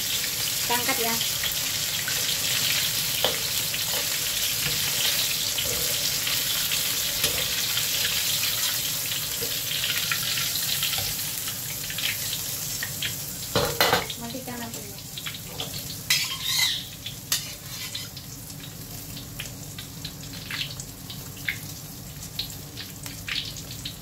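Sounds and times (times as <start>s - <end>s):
deep-frying sizzle: 0.0s - 24.0s.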